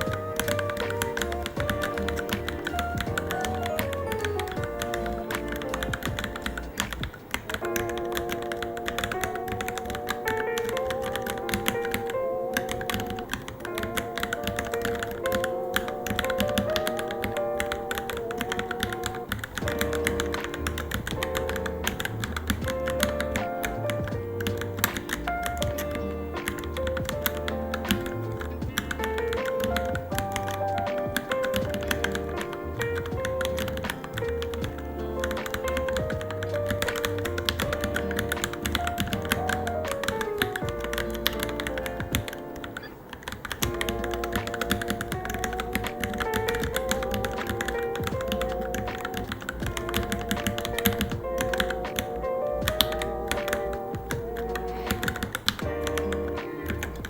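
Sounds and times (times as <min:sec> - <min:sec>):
background music: 0:00.0 - 0:57.0
fast keyboard typing: 0:00.0 - 0:57.0.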